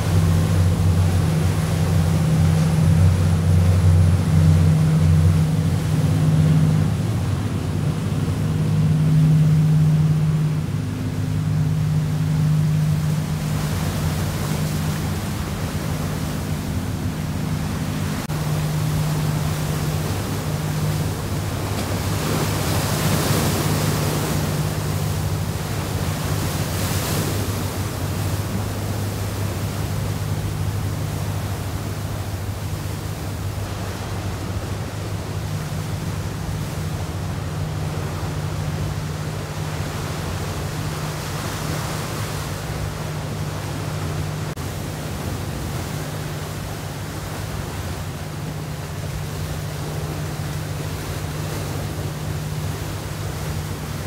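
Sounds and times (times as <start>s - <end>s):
ship engines humming: 0.0s - 54.0s
wind and sea hiss: 0.0s - 54.0s.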